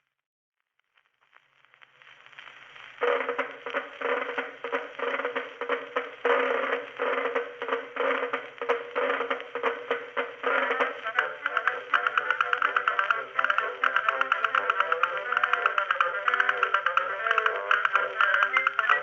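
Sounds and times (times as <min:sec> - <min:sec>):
record crackle: 0:00.0 - 0:19.0
old-time recorded music: 0:00.8 - 0:19.0.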